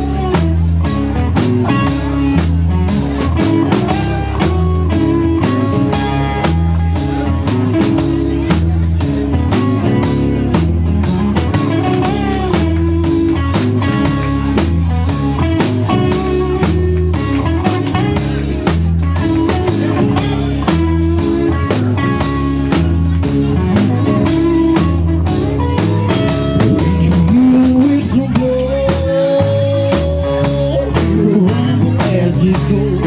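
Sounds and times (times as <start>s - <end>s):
live band playing: 0.0s - 33.0s.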